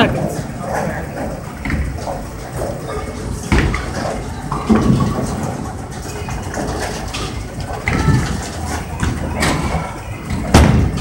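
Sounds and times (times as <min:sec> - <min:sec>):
bowling balls rolling: 0:00.0 - 0:11.0.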